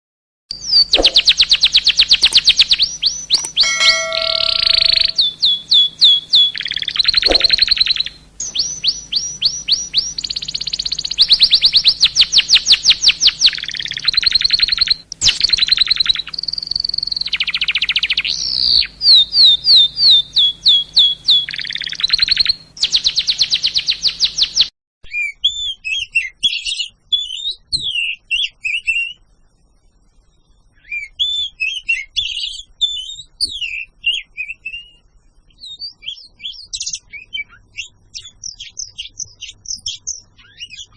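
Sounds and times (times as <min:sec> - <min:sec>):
songbirds chirping: 0:00.5 - 0:29.2, 0:30.1 - 0:40.9
birds twittering softly: 0:00.5 - 0:40.9.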